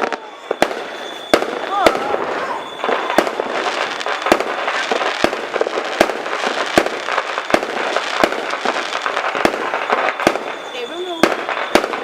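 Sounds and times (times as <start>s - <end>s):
fireworks banging: 0.0s - 12.0s
fireworks crackling: 0.0s - 12.0s.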